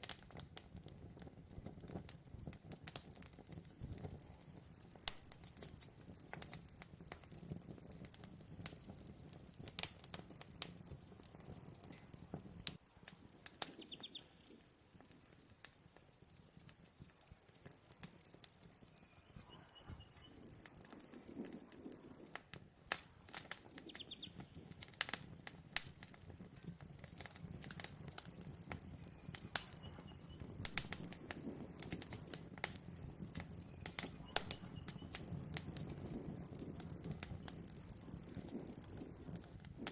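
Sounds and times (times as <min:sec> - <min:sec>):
campfire crackling and popping: 0:00.0 - 0:39.9
crickets chirping: 0:02.3 - 0:39.9.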